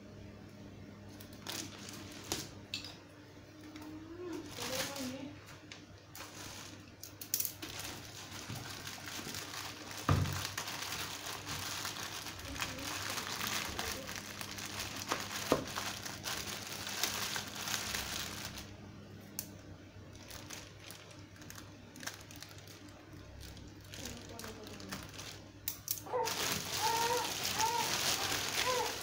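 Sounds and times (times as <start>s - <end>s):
plastic bag crinkling: 1.2s - 2.6s, 4.4s - 5.3s, 6.1s - 18.8s, 20.1s - 29.0s.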